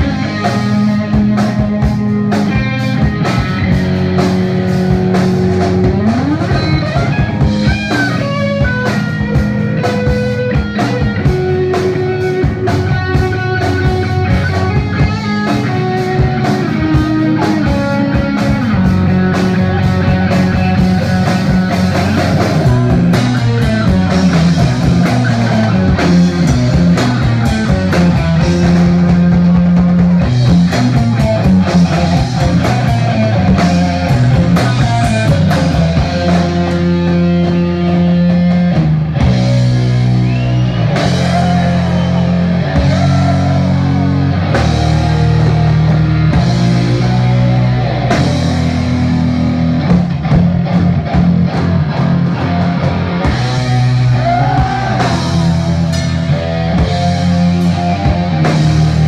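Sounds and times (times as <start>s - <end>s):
doom metal band playing live: 0.0s - 59.0s.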